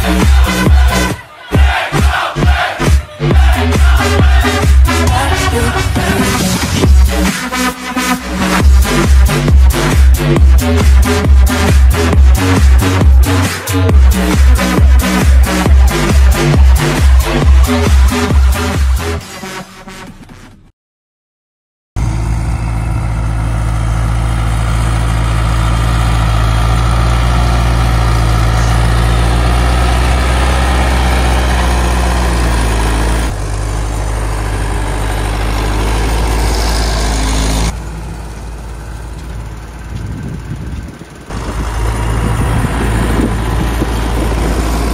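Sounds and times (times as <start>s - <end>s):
tractor diesel engine running: 0.0s - 20.4s, 22.0s - 44.9s.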